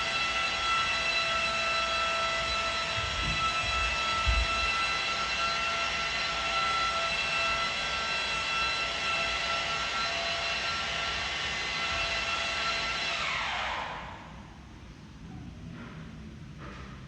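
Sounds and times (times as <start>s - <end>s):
electric polisher whine: 0.0s - 14.2s.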